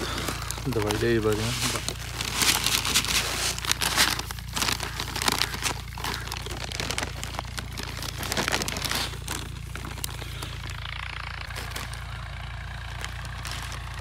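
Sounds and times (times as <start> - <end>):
low hum: 0.0 - 14.0
plastic packet crinkling: 0.0 - 14.0.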